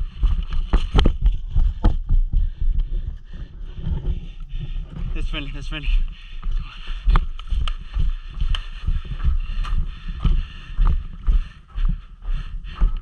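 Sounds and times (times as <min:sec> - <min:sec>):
footsteps on dirt and gravel: 0:00.0 - 0:13.0.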